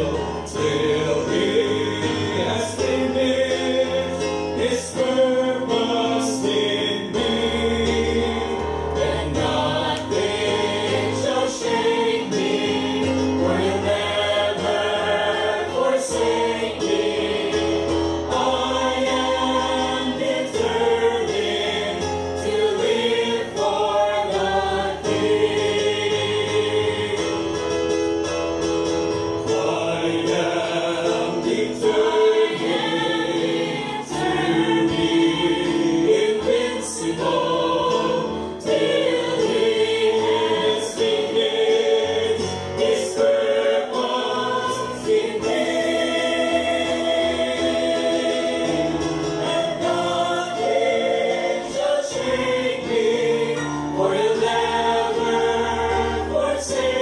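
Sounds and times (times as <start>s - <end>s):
mixed choir singing a hymn: 0.0s - 28.0s, 29.3s - 57.0s.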